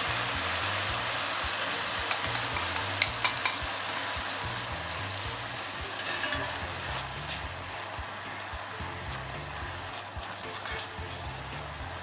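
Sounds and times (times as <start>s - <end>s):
food sizzling in frying pan: 0.0s - 12.0s
utensil clicking against pan: 1.0s - 12.0s.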